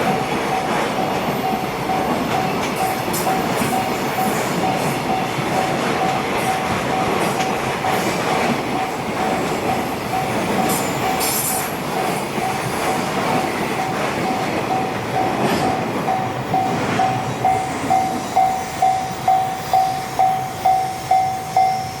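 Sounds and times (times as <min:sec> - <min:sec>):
freight train rumbling past: 0:00.0 - 0:22.0
level crossing warning bell: 0:00.0 - 0:22.0.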